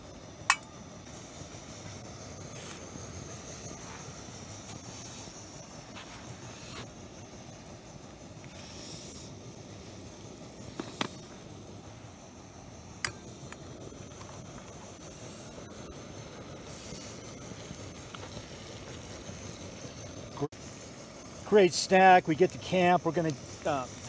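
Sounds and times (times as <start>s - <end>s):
camping stove hissing: 0.0s - 24.0s.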